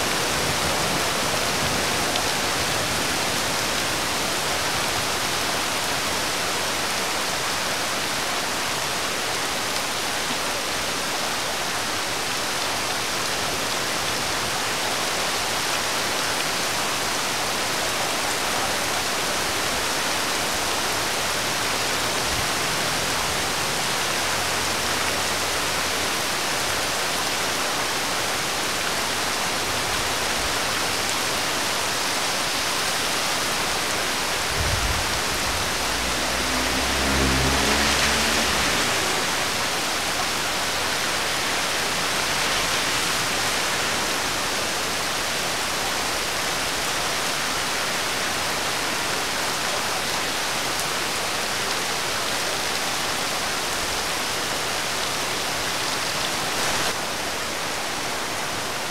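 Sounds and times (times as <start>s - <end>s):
rain falling on wet road: 0.0s - 58.9s.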